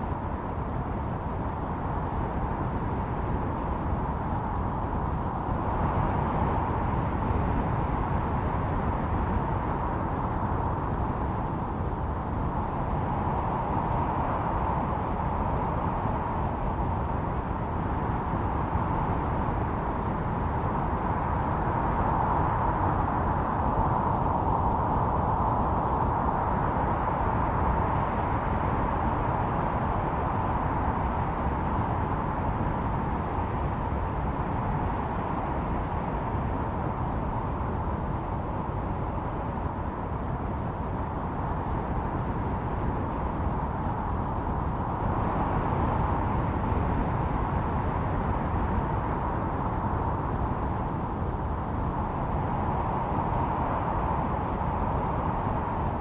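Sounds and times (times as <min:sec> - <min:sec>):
howling snowstorm wind: 0:00.0 - 0:56.0.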